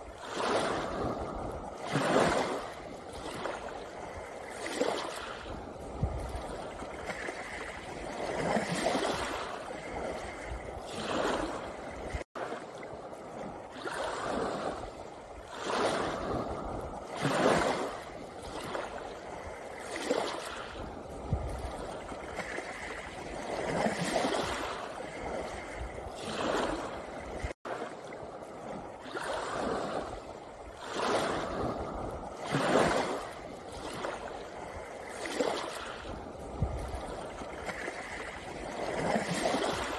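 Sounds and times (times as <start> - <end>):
small waves on a pebble beach: 0.0 - 39.9.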